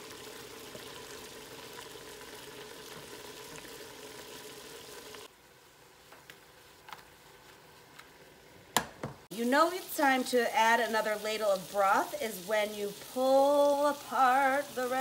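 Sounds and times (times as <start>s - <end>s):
rice simmering and bubbling: 0.0s - 15.0s.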